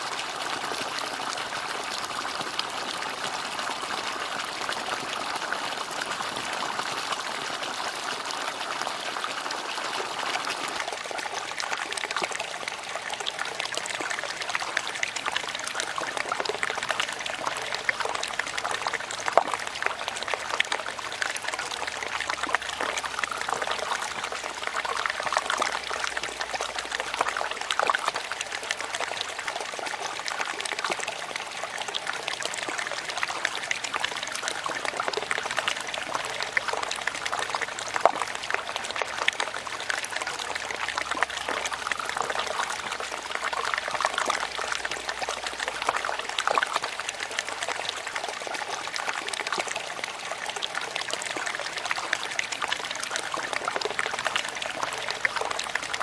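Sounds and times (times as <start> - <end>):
fountain water trickling into basin: 0.0 - 56.0.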